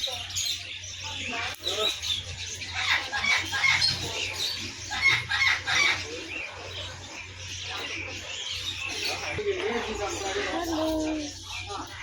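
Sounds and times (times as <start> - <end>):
caged birds calling: 0.0 - 12.0.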